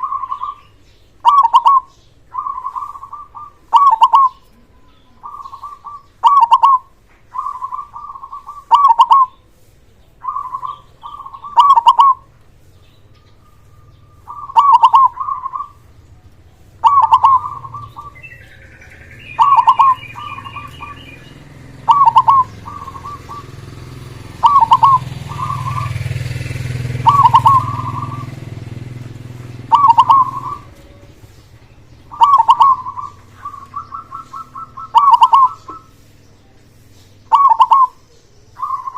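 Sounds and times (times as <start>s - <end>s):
dove cooing: 0.0s - 9.5s, 10.2s - 38.9s.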